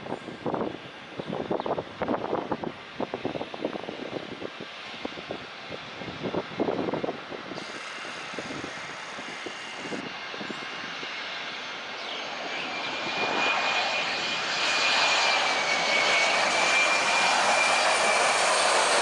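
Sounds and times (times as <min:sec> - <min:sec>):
jet engines rushing with high whine: 0:00.0 - 0:19.0.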